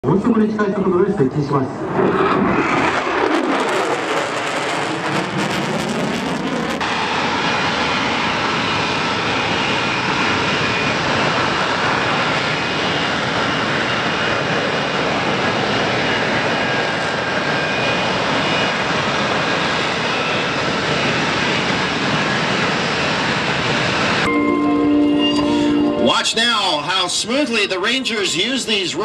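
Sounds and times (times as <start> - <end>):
jet engine roaring: 0.0 - 29.0.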